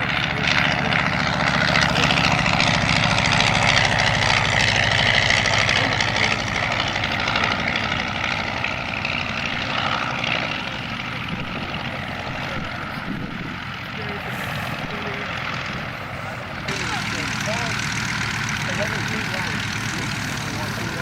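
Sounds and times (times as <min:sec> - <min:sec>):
propeller aircraft engine: 0:00.0 - 0:21.0.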